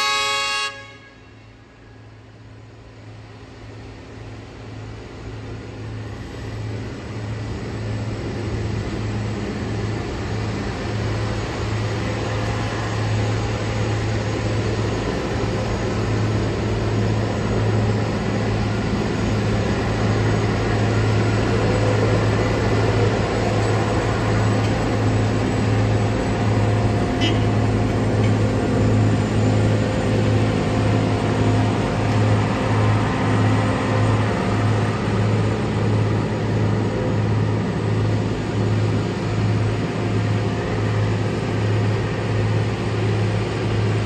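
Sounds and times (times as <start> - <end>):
diesel engines humming: 0.0 - 44.0.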